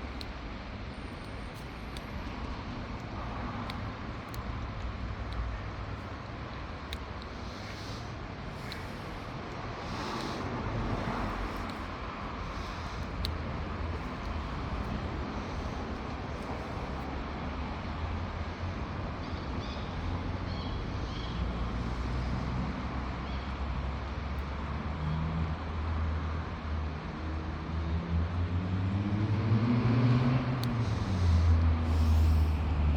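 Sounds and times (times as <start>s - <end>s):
road traffic rumble: 0.0s - 32.9s.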